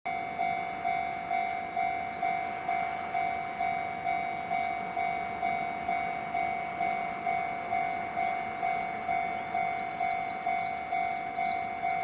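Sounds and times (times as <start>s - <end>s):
level crossing alarm ringing: 0.1s - 12.0s.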